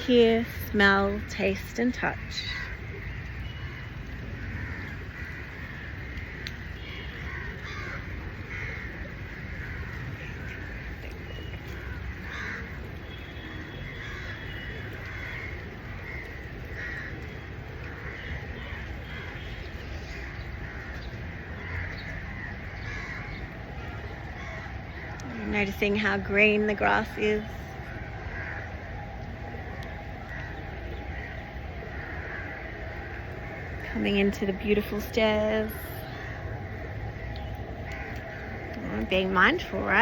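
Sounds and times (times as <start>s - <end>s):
crows cawing: 0.0s - 25.4s, 26.8s - 40.0s.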